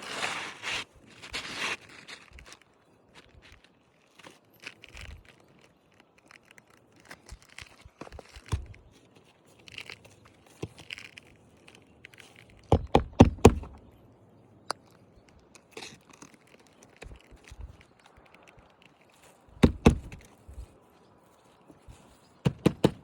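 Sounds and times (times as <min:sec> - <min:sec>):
roof shingle scraping and crinkling: 0:00.0 - 0:23.0.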